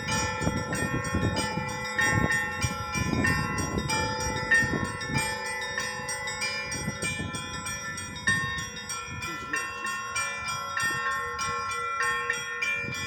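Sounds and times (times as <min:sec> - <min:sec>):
low bells ringing: 0:00.0 - 0:13.0
small bells ringing quickly: 0:00.0 - 0:13.0.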